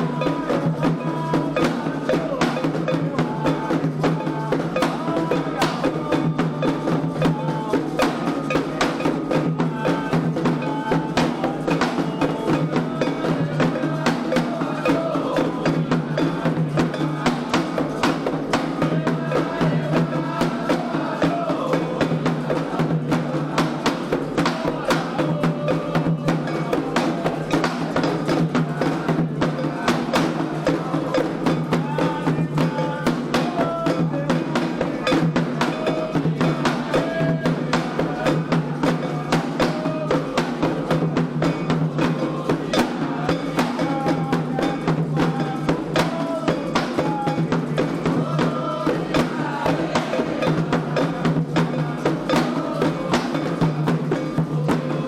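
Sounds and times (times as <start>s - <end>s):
call-and-response group singing: 0.0s - 55.0s
hand drums beating: 0.0s - 55.0s
struck bell: 0.0s - 55.0s.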